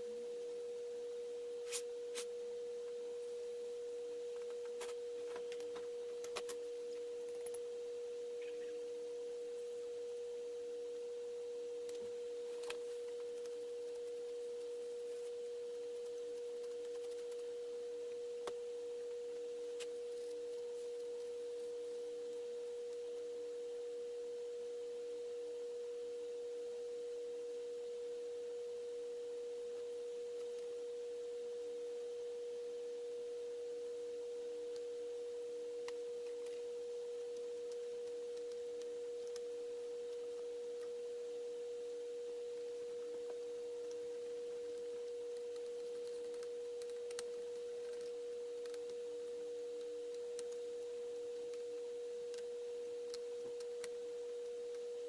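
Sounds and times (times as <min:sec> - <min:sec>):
faint lower tone: 0:00.0 - 0:55.0
steady pure tone: 0:00.0 - 0:55.0.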